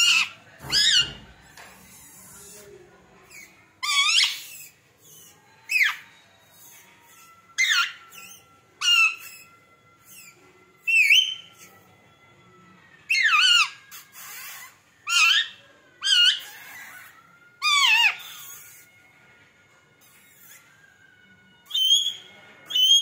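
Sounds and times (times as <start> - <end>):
parakeet calling: 0.0 - 11.6, 13.1 - 19.1, 20.0 - 20.9, 21.6 - 23.0.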